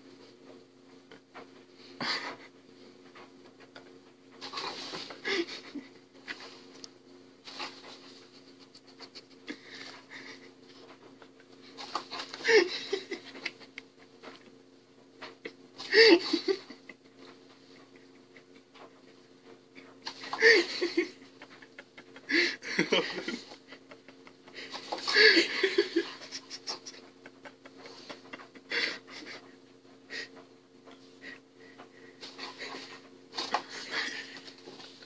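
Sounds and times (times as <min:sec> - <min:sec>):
steady low hum: 0:00.0 - 0:35.0
person laughing softly: 0:03.6 - 0:06.8, 0:07.5 - 0:14.4, 0:15.2 - 0:35.0.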